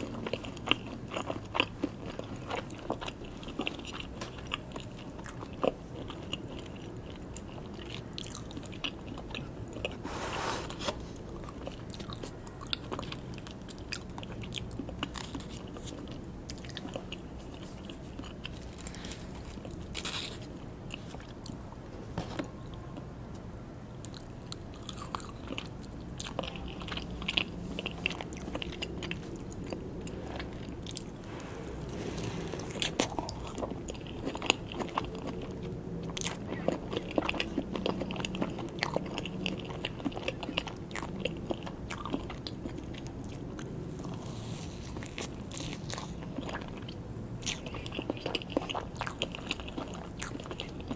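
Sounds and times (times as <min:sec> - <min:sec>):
cake being chewed: 0:00.0 - 0:50.9.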